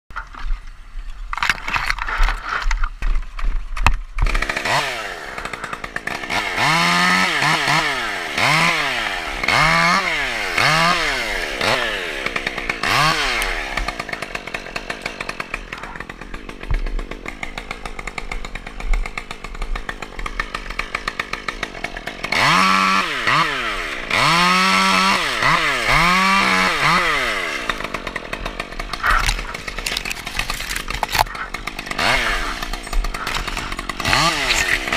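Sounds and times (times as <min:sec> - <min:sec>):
chainsaw running: 0:01.4 - 0:34.9.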